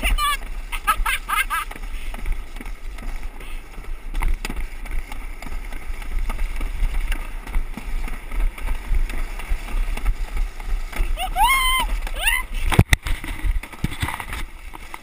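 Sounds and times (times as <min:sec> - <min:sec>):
sled knocking on track: 0:00.0 - 0:15.0
sled rumbling on track: 0:00.0 - 0:15.0.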